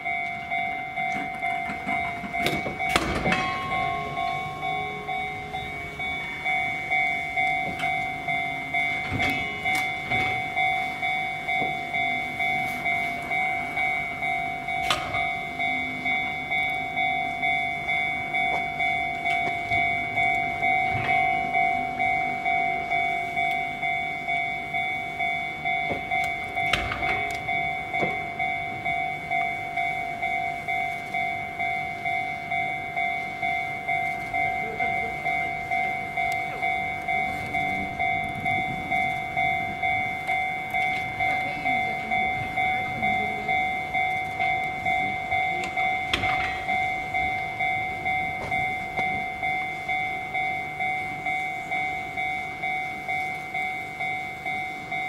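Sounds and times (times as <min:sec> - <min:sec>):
electric train rolling slowly: 0:00.0 - 0:55.0
level-crossing alarm ringing: 0:00.0 - 0:55.0
train wheels clicking over rail joints: 0:00.0 - 0:55.0.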